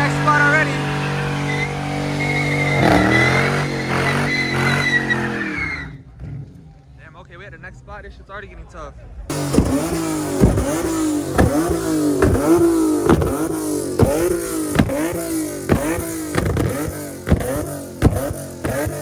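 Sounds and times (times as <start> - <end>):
car engine revving: 0.0 - 7.8, 9.1 - 19.0.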